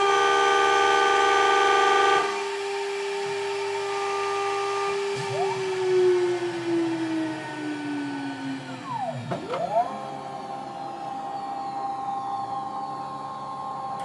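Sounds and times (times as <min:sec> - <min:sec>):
spindle motor whining: 0:00.0 - 0:14.0.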